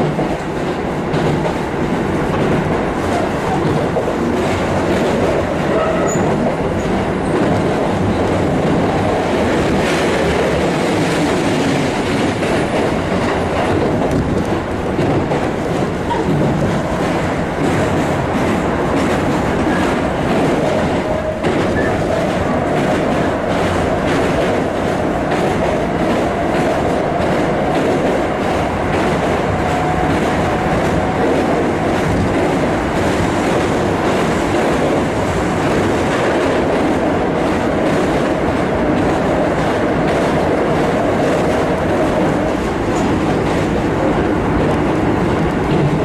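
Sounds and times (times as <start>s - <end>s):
rail-joint clicks: 0.0s - 46.0s
train wheels rumbling on rail: 0.0s - 46.0s.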